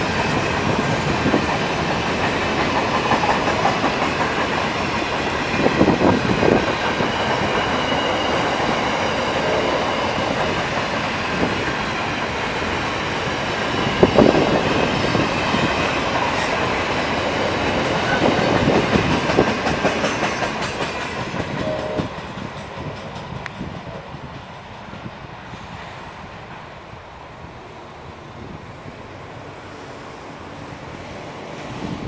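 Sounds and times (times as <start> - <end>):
train wheels clacking over rail joints: 0.0 - 26.0
freight train rumble: 0.0 - 32.0.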